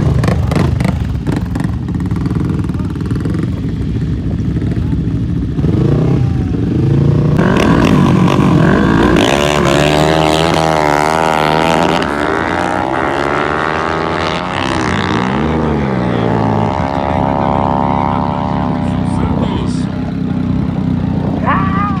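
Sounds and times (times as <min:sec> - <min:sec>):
motorcycles revving at high revs: 0:00.0 - 0:22.0.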